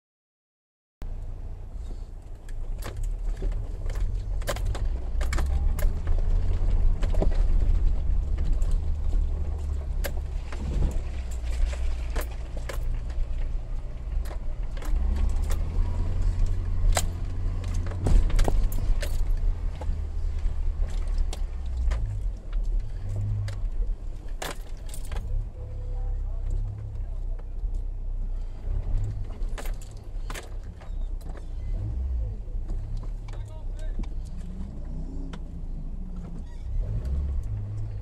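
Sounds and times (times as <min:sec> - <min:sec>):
engine and drivetrain rumble: 0:01.0 - 0:38.0
knocks and rattles over rough ground: 0:01.7 - 0:38.0.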